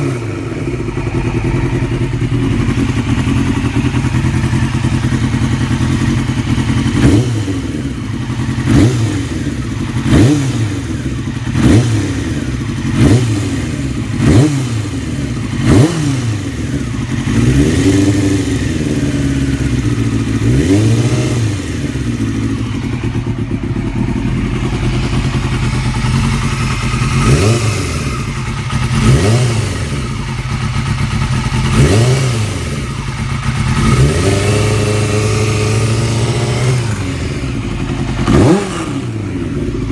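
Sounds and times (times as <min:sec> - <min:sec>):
engine ticking: 0:00.0 - 0:39.9
motorcycle engine idling and revving: 0:00.0 - 0:39.9.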